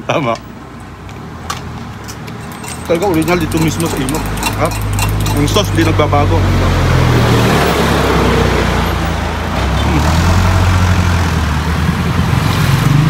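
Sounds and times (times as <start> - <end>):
vehicle engine rumbling: 0.5 - 13.0.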